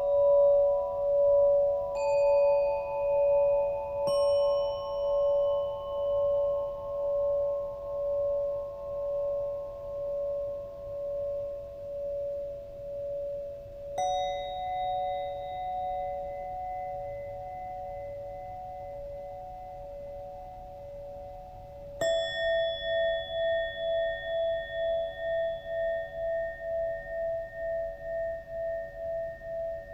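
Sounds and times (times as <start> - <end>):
singing bowl ringing: 0.0 - 29.9.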